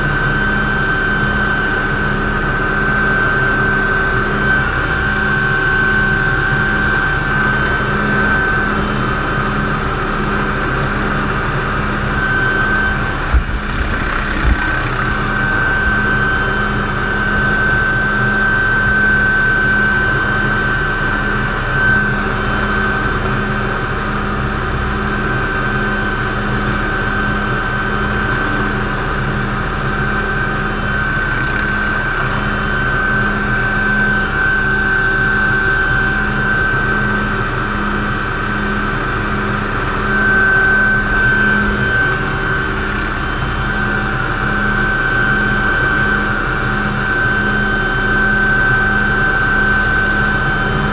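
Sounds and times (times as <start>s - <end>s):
helicopter rotor drone: 0.0s - 50.9s
turbine engine high whine: 0.0s - 50.9s.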